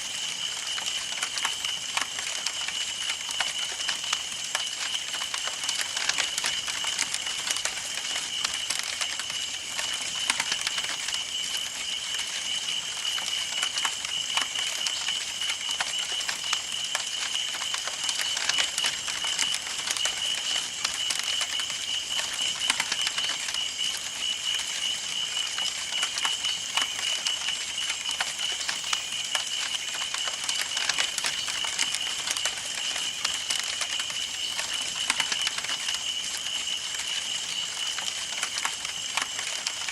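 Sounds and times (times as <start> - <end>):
campfire crackling and popping: 0.3 - 39.9.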